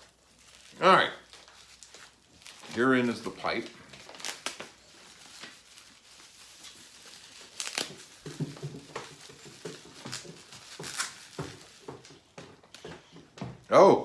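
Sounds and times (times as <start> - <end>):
packing material crinkling: 0.0 - 12.4
handling noise: 1.3 - 13.7.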